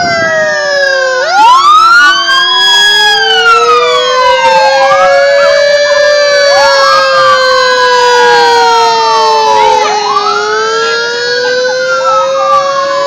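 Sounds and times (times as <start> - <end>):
emergency vehicle sirens wailing: 0.0 - 13.0.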